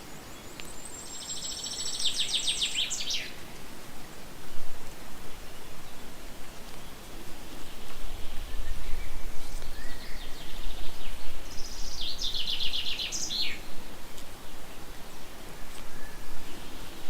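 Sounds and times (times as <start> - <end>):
songbird singing: 0.0 - 4.2, 5.5 - 17.0.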